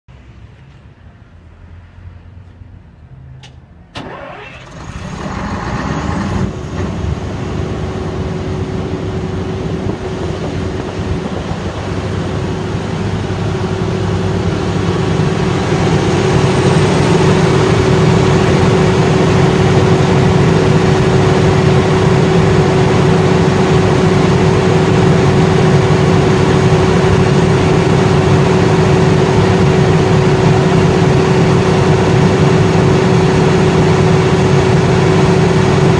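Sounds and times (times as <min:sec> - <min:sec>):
constant whine: 0:00.4 - 0:35.9
diesel generator engine running: 0:03.4 - 0:35.9.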